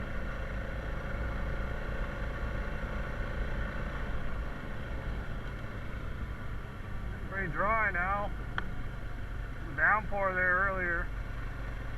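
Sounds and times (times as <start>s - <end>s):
atv engine running: 0.0s - 11.9s.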